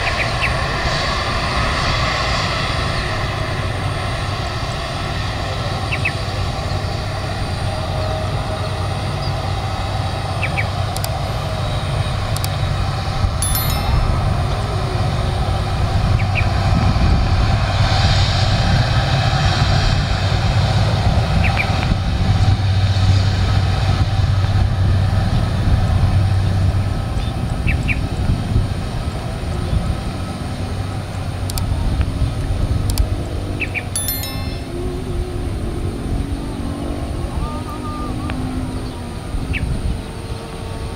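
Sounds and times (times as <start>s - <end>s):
jet airliner engines rumbling: 0.0s - 40.9s.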